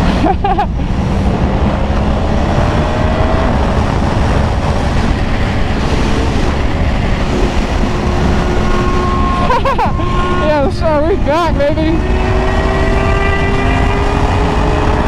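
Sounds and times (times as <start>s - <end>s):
motorcycle engine droning: 0.0s - 15.0s
wind and road noise: 0.0s - 15.0s.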